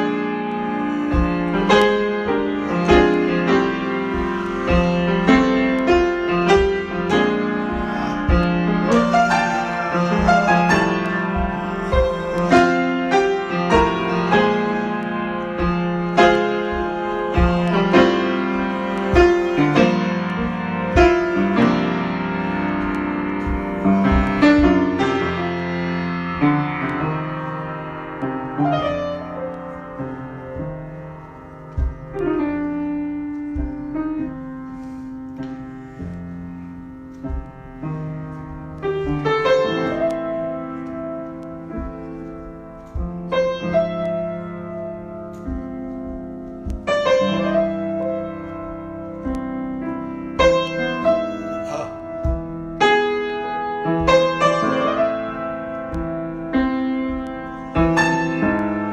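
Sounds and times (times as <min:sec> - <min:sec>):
solo piano improvisation: 0:00.0 - 0:58.9.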